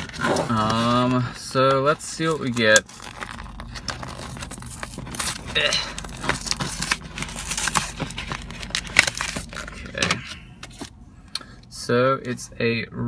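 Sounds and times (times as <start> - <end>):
foil pack crinkling: 0.0 - 10.9
steady low hum: 0.0 - 13.0.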